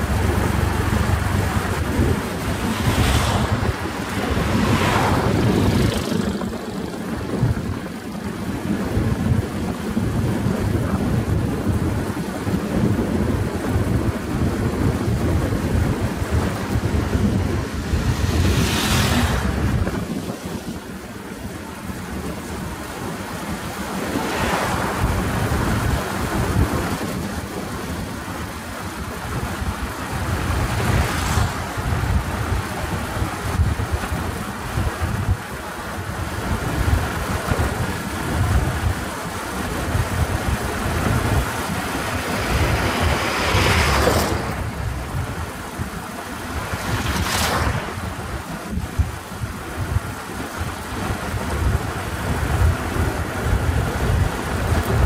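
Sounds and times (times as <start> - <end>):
vehicles rushing past: 0.0 - 9.4, 14.0 - 50.1
motorcycle engine rumble: 0.0 - 55.0
wind buffeting microphone: 0.0 - 55.0.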